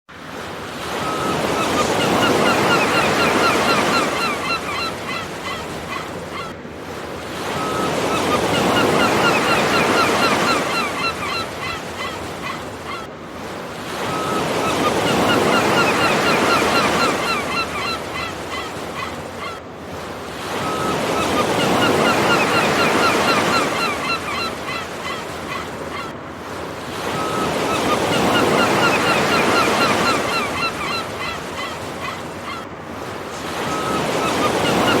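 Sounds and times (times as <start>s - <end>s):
surf washing in: 0.1s - 35.0s
birds honking: 0.9s - 6.5s, 7.4s - 13.1s, 14.0s - 19.6s, 20.5s - 26.2s, 27.0s - 32.7s, 33.6s - 35.0s.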